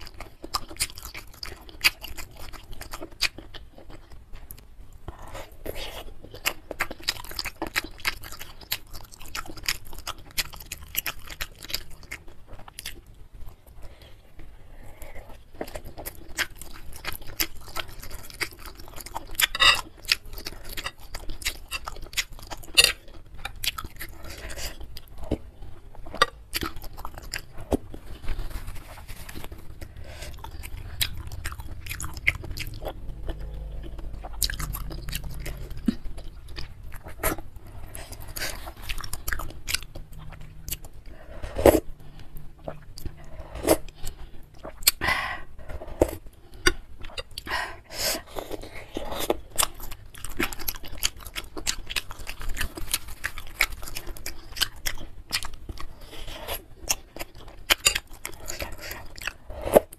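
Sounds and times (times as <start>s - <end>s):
close-miked chewing: 0.0s - 59.9s.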